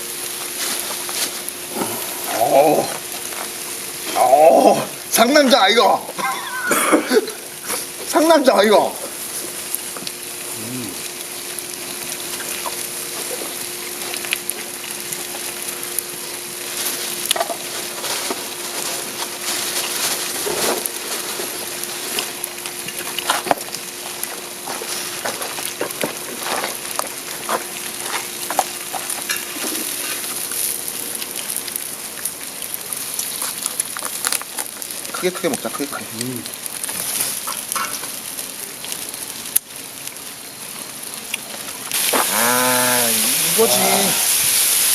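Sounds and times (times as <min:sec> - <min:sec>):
meat sizzling: 0:00.0 - 0:44.9.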